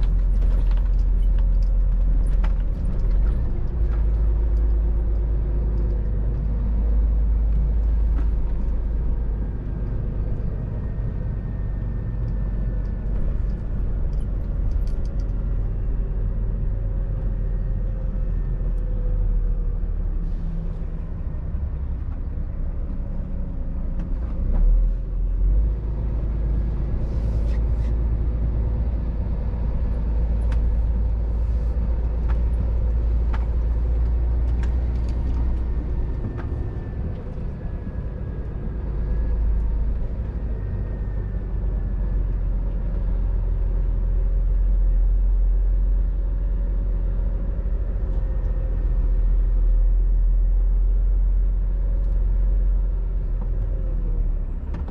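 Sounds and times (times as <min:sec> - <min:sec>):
road and tyre rumble: 0:00.0 - 0:54.9
truck diesel engine running: 0:00.0 - 0:54.9.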